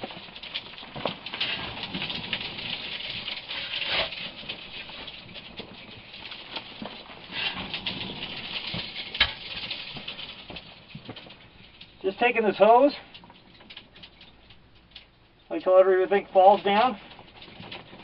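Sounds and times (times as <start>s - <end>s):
dirt falling and scraping: 0.0s - 18.0s.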